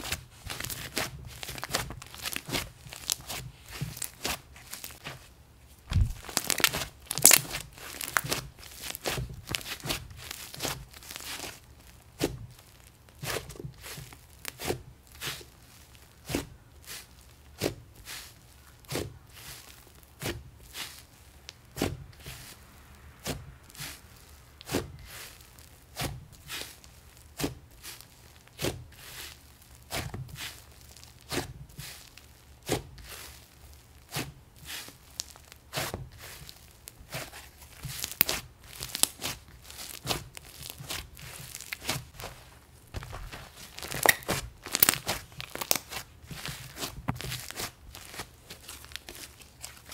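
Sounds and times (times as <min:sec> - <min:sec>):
slime squishing by hand: 0:00.0 - 0:49.9.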